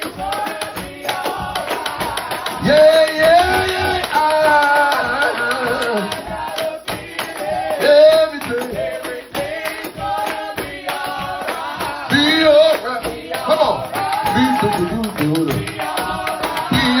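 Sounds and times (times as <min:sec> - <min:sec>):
band with steady percussion: 0:00.0 - 0:17.0
gospel singing: 0:00.0 - 0:17.0.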